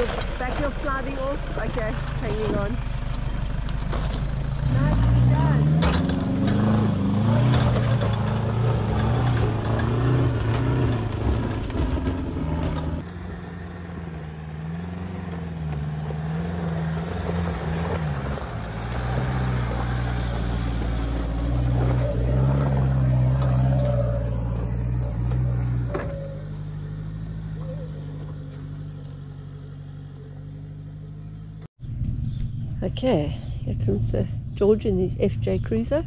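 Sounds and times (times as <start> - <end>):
pickup engine revving: 0.0 - 31.7.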